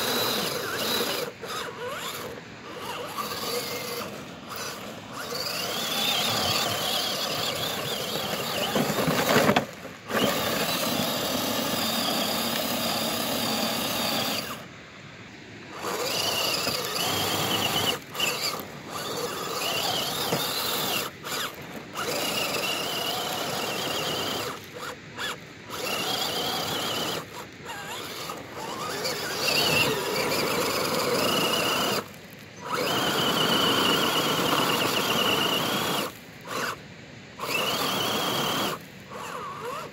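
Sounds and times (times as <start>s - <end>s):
rc car electric motor whining: 0.0s - 14.7s, 15.7s - 39.9s
tyres spinning on gravel: 0.0s - 14.7s, 15.7s - 36.8s, 37.4s - 39.9s.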